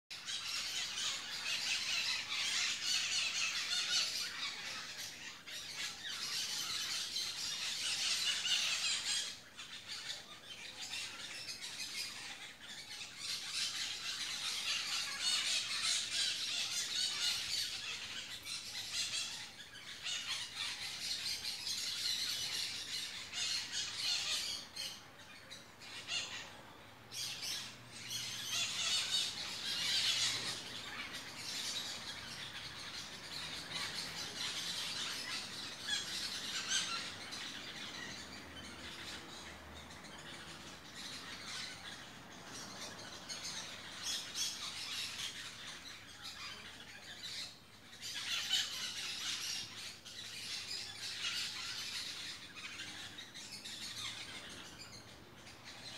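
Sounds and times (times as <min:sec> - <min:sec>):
parakeets squawking and chirping: 0:00.1 - 0:55.9.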